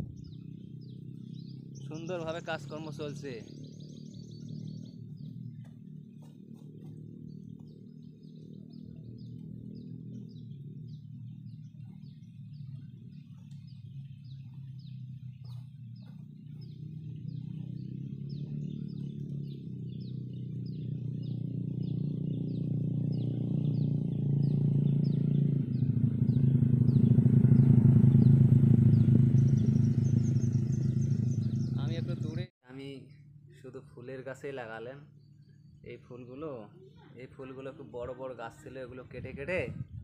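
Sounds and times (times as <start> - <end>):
low drone: 0.0 - 32.4
bird chirping: 0.0 - 33.3, 34.4 - 40.0.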